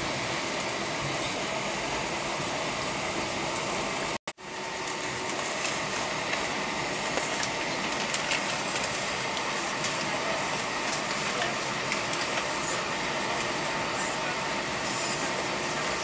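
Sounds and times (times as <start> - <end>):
aircraft cabin rumble and hiss: 0.0 - 16.0.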